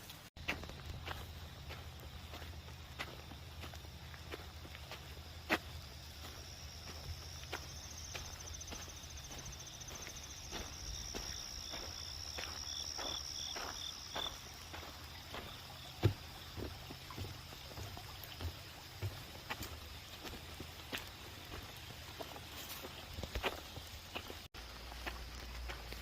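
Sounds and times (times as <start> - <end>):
footsteps on wet path: 0.0 - 26.0
high insect trill: 0.6 - 26.0.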